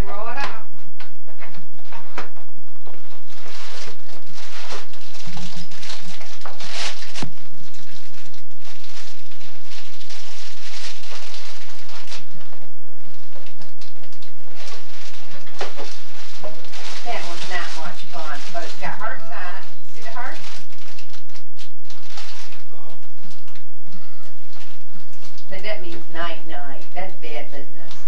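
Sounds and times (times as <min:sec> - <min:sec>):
low hum: 0:00.0 - 0:28.0
paper rustling and crinkling: 0:02.9 - 0:25.5.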